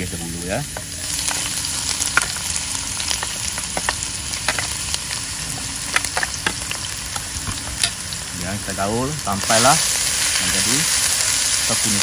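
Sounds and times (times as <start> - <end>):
aromatics sizzling in hot oil: 0.0 - 12.0
oil crackles and pops: 0.0 - 12.0.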